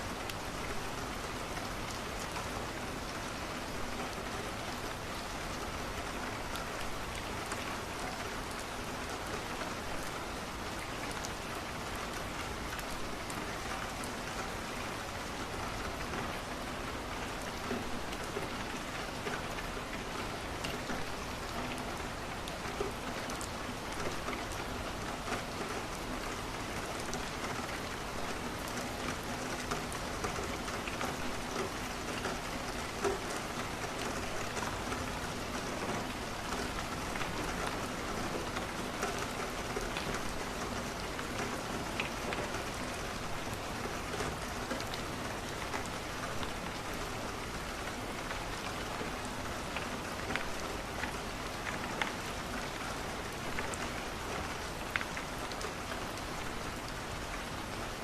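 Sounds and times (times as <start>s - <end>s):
rain falling against window: 0.0s - 58.0s.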